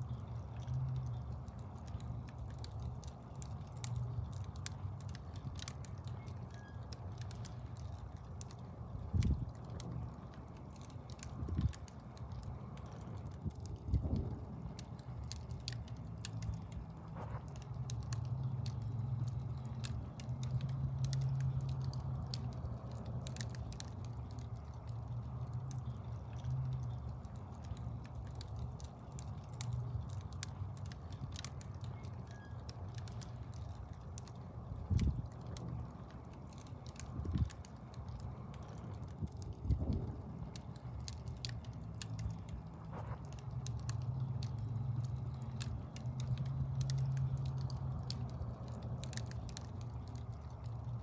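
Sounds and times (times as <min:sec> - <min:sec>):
logs crackling and popping: 0:00.0 - 0:51.0
low rumble of flames: 0:00.0 - 0:51.0.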